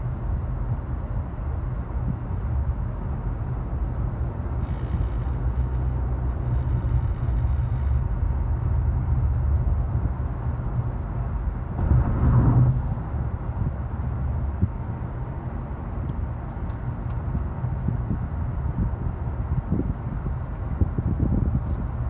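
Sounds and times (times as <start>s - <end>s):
car interior road and engine rumble: 0.0s - 22.0s.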